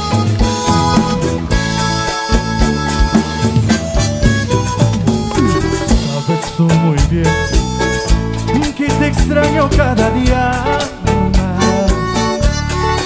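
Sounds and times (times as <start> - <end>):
cumbia band playing: 0.0 - 13.0
drums: 0.0 - 13.0
electric guitars: 0.0 - 13.0
electric keyboard: 0.0 - 13.0.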